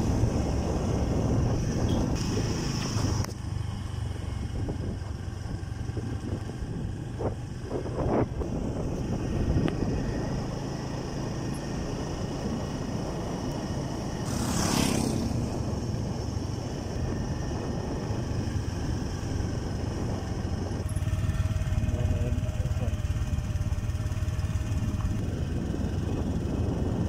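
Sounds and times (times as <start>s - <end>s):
motorcycle engine running: 0.0s - 27.0s
wind on microphone: 0.0s - 27.0s.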